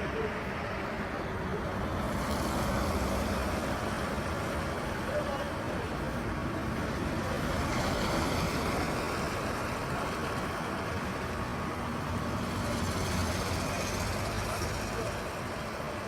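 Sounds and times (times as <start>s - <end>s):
road noise hiss: 0.0s - 16.0s
vehicle engines passing: 0.0s - 16.0s.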